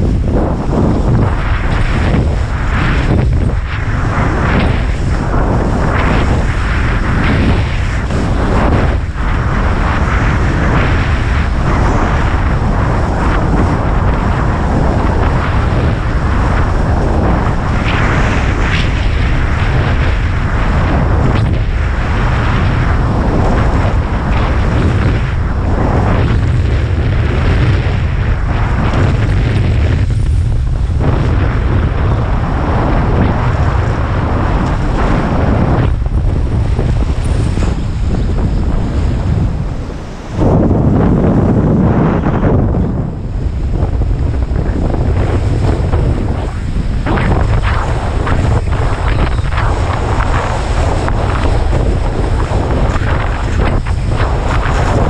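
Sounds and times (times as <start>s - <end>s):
water and spray rushing: 0.0s - 55.0s
wind buffeting microphone: 0.0s - 55.0s.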